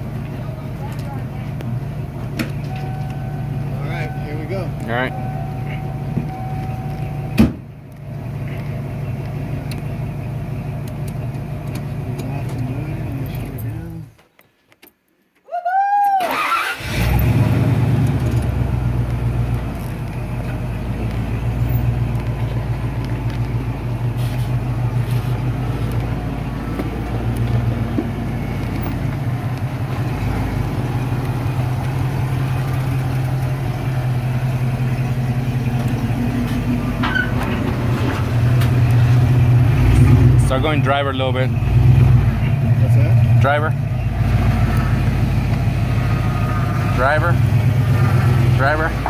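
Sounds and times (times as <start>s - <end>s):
vehicle engine running: 0.0s - 14.1s, 16.8s - 49.0s.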